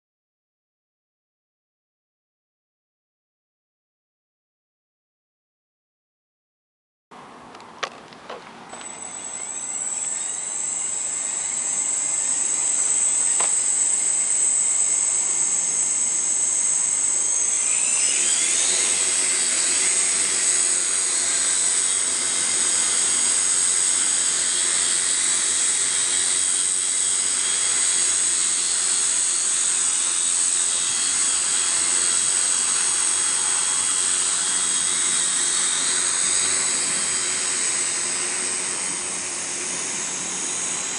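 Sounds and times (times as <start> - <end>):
low hum of rotors: 7.2 - 40.9
drone motors whining: 7.8 - 40.9.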